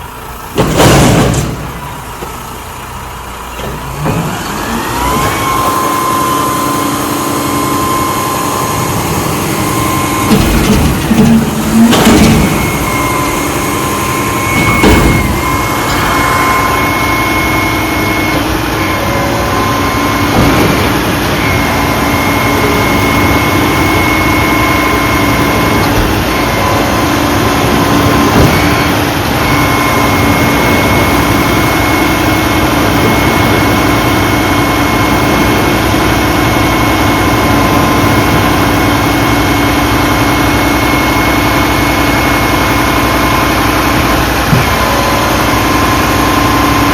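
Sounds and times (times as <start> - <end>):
diesel engine running: 0.0 - 46.9
steady high whine: 4.4 - 46.9.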